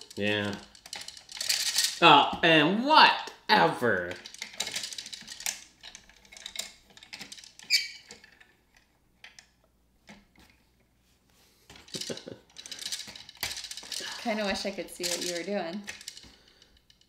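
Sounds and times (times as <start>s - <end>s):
plastic gears clicking and squeaking: 0.0s - 2.0s, 4.0s - 10.5s, 11.7s - 17.0s.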